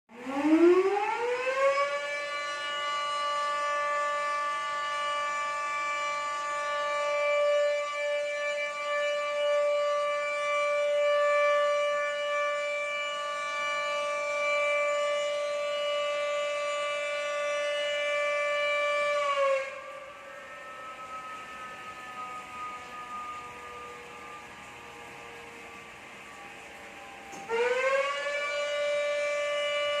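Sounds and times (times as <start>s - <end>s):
warning siren wailing: 0.1s - 30.0s.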